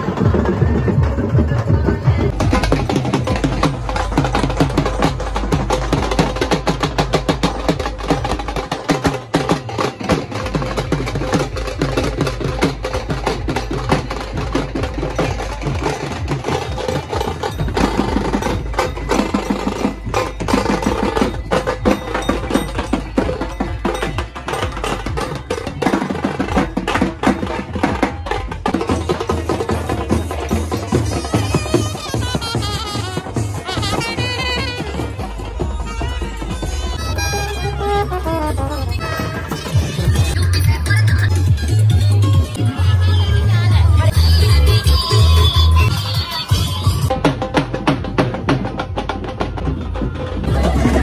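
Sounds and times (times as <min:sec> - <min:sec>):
drums beaten with sticks: 0:00.0 - 0:51.0.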